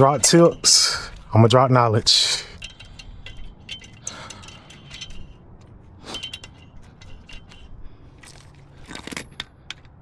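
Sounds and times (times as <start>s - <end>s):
metallic clinks of lug nuts: 0.0s - 10.0s.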